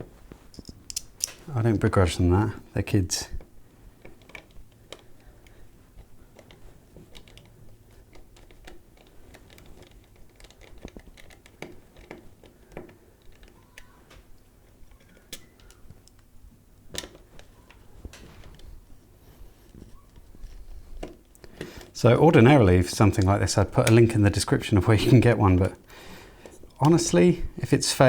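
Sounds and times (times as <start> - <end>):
hand tools being handled: 0.0 - 1.5, 3.3 - 16.3, 16.9 - 27.2.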